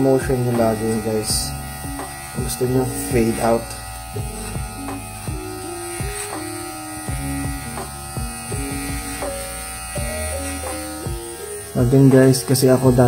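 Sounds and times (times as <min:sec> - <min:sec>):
hair clipper buzzing: 0:00.0 - 0:13.0.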